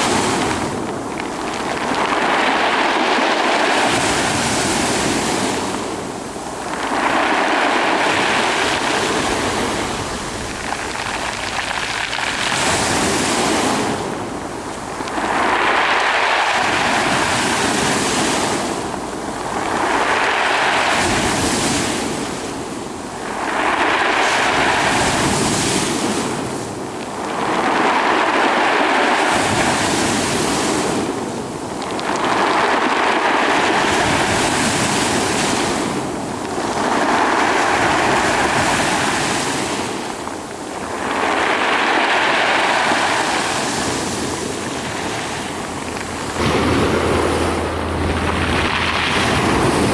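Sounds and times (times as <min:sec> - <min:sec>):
sea waves washing: 0:00.0 - 0:49.9.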